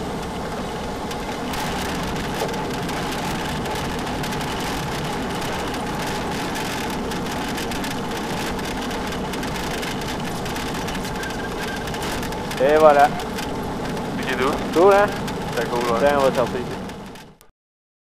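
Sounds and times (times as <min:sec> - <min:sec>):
cabin and rolling noise: 0:00.0 - 0:17.4
propeller plane engine idling: 0:00.0 - 0:17.4
fine crackling rattle: 0:01.0 - 0:17.4.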